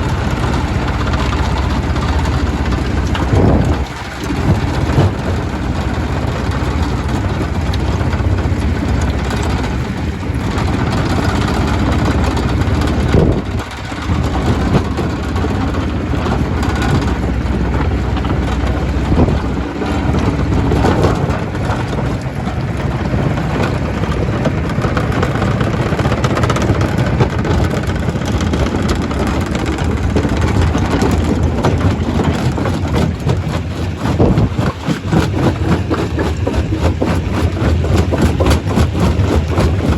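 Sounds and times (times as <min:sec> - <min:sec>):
stone crusher droning: 0:00.0 - 0:39.9.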